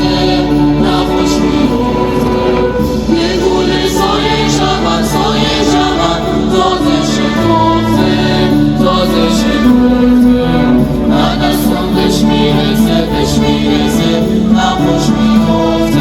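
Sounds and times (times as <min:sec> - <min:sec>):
choir holding long notes: 0:00.0 - 0:16.0
low drone: 0:00.0 - 0:16.0.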